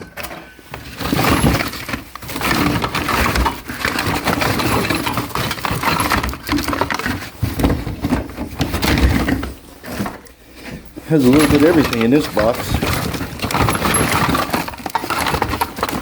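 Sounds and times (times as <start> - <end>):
plastic and metal parts rattling: 0.0 - 16.0.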